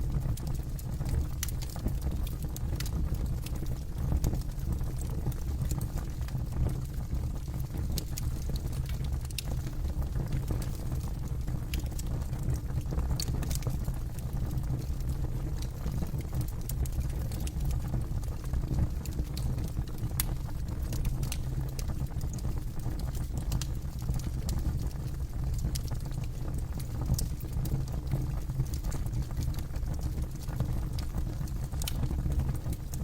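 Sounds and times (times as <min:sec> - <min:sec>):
campfire rumble: 0:00.0 - 0:33.0
fire crackling and popping: 0:00.0 - 0:33.0.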